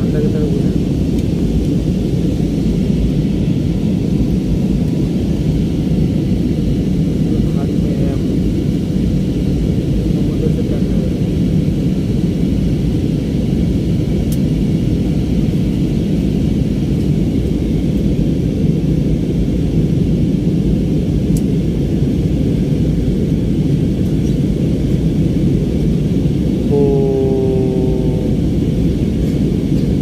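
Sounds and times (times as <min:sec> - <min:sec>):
jet engines rumbling: 0:00.0 - 0:19.2, 0:21.8 - 0:30.0.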